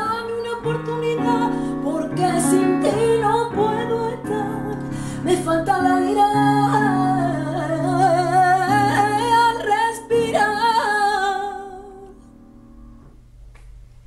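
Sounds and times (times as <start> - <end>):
woman singing wordless line: 0.0 - 12.2
digital piano chords: 0.0 - 13.4.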